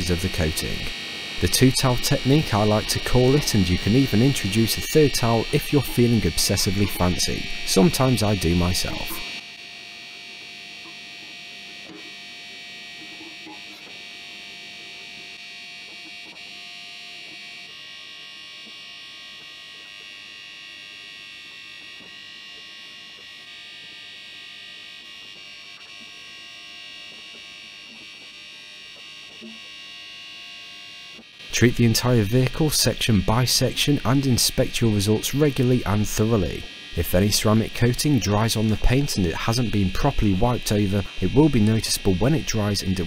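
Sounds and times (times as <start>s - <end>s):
high-pitched electrical buzz: 0.0s - 43.0s.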